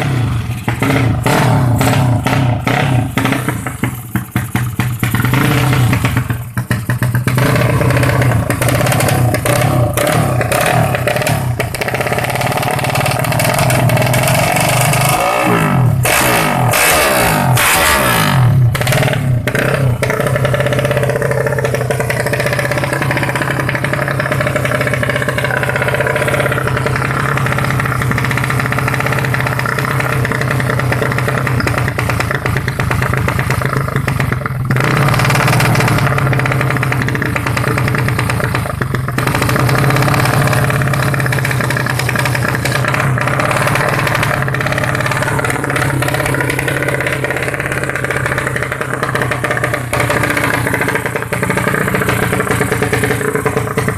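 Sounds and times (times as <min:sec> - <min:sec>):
motorcycle engine idling: 0:00.0 - 0:53.9
rattly mechanical clatter: 0:00.4 - 0:53.9.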